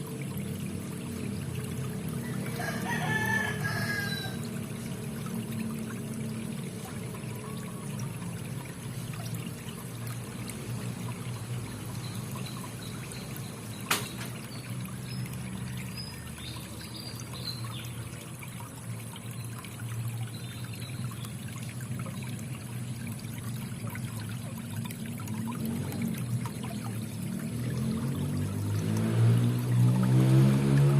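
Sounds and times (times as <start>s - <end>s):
water trickling and pouring: 0.0s - 30.9s.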